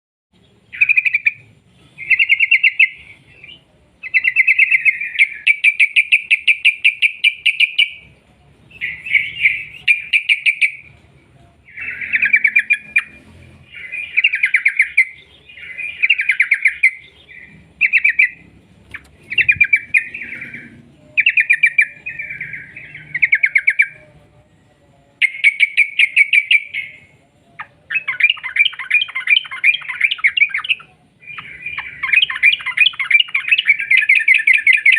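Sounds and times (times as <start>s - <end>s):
bulbul singing rapid chattering phrases: 0.4s - 24.3s, 25.1s - 34.9s.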